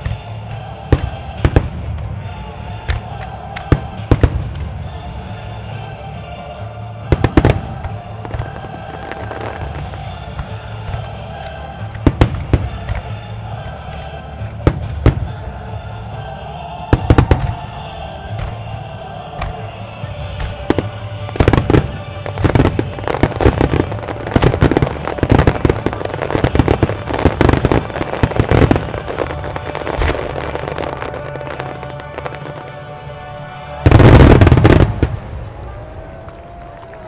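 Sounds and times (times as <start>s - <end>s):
fireworks launching and bursting: 0.0s - 5.4s, 7.0s - 15.7s, 16.8s - 33.1s, 33.8s - 37.0s
music: 0.0s - 37.0s.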